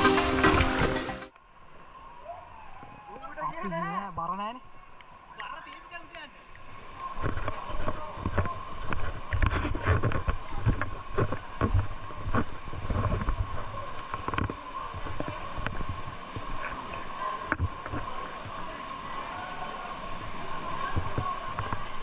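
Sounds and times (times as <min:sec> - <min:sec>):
water splashing and sloshing: 0:00.0 - 0:01.8, 0:05.1 - 0:22.0.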